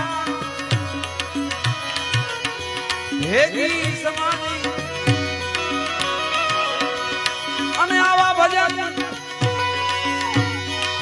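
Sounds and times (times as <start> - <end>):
harmonium melody: 0.0 - 11.0
tabla strokes: 0.0 - 11.0.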